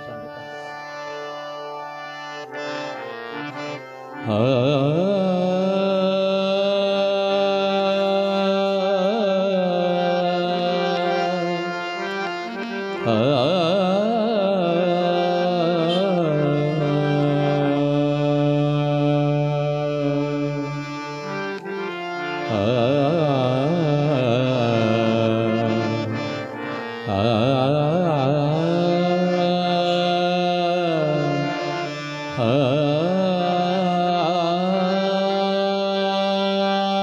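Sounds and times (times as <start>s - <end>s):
harmonium drone: 0.0s - 37.0s
person singing wordless vocal: 3.5s - 37.0s.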